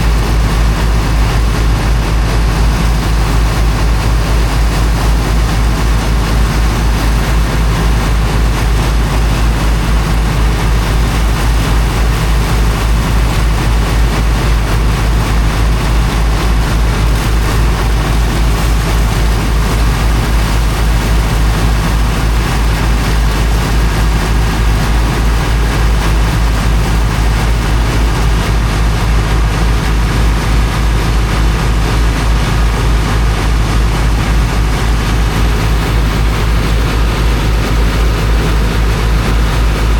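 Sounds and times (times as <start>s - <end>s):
rushing noise: 0.0s - 39.9s
water pump engine throbbing: 0.0s - 39.9s.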